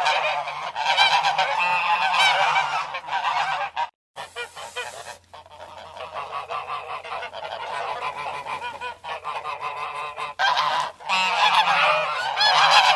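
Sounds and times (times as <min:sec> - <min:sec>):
geese honking: 0:00.0 - 0:12.9.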